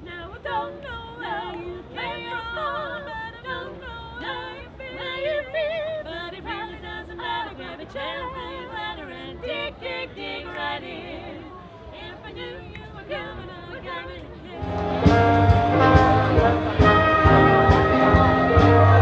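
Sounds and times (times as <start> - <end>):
voices singing in harmony: 0.0 - 19.0.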